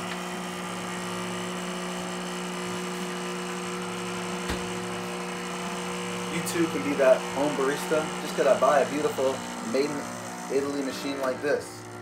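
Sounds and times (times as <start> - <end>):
espresso machine pump buzzing: 0.0 - 12.0.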